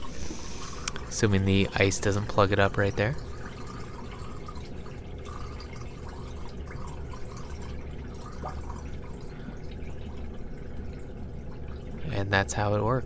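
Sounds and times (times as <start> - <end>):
water pouring and gurgling down drain: 0.0 - 12.9.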